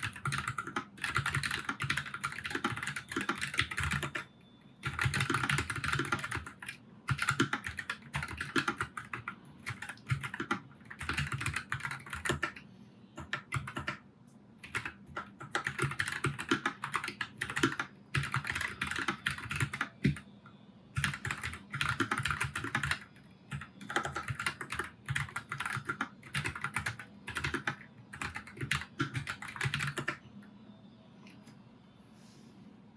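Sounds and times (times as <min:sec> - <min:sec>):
mechanical keyboard typing: 0:00.0 - 0:12.6, 0:13.2 - 0:14.0, 0:14.6 - 0:20.2, 0:21.0 - 0:30.2.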